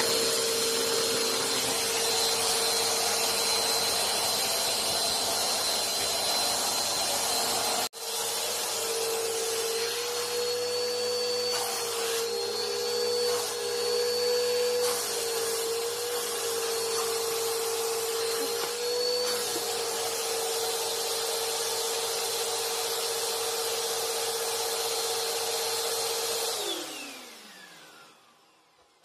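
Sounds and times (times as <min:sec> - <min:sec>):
vacuum cleaners humming and whining: 0:00.0 - 0:29.0.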